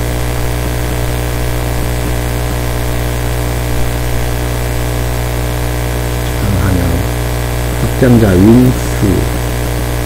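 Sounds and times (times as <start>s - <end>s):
electrical mains hum and buzz: 0.0s - 10.0s.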